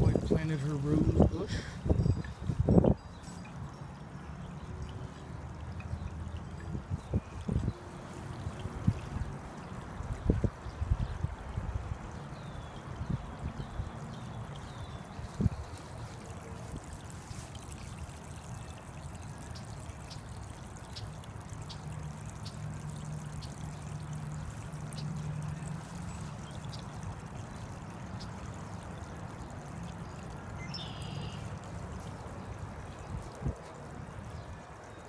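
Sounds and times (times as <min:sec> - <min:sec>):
water splashing over rocks: 0:04.6 - 0:35.0.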